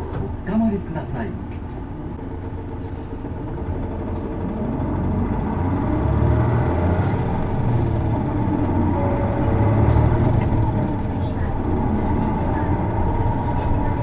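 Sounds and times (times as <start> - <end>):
bus diesel engine accelerating: 0.0 - 14.0.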